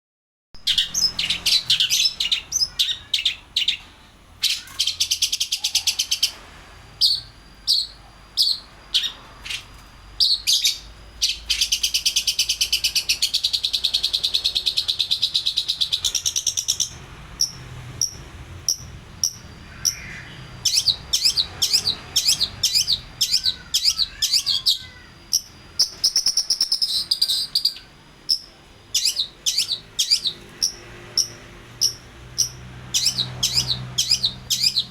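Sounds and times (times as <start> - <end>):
fast bird trill: 0.6 - 3.8, 4.4 - 6.4, 7.0 - 34.9.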